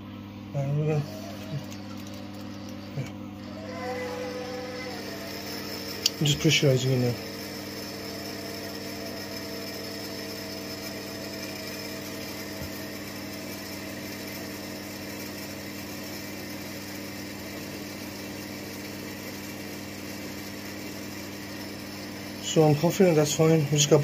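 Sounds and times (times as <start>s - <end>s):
boiler humming: 0.0s - 24.0s.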